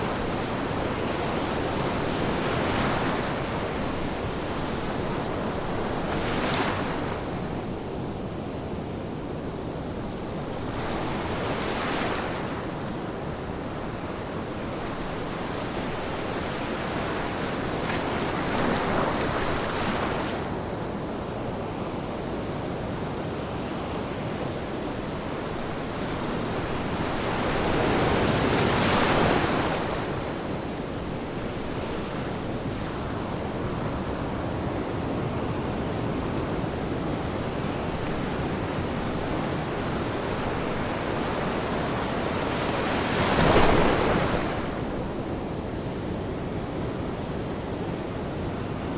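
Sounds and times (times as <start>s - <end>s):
ocean surf breaking on beach: 0.0s - 48.9s.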